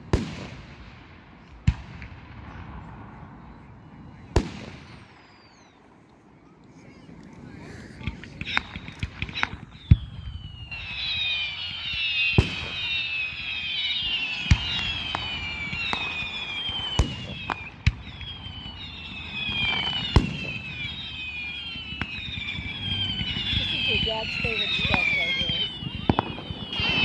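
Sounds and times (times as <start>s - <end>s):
firework bangs: 0.0s - 5.8s, 8.0s - 27.0s
whistling fireworks: 0.0s - 27.0s.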